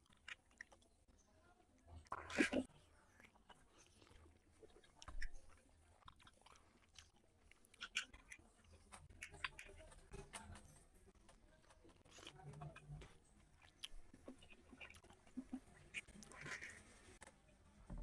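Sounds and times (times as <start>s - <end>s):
person chewing food: 0.0s - 1.1s, 1.8s - 17.2s.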